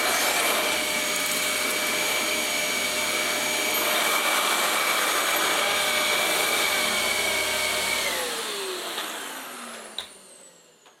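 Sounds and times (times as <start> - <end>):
vacuum cleaner whine: 0.0 - 11.0.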